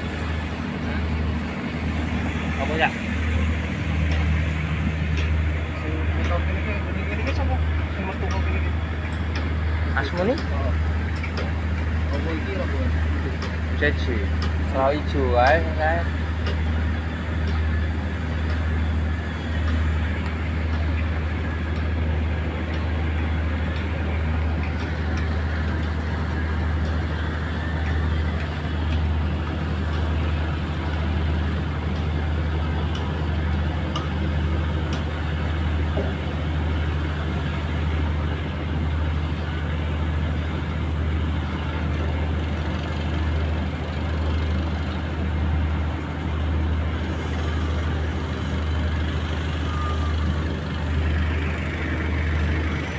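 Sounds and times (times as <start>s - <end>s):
boat diesel engine droning: 0.0s - 52.9s.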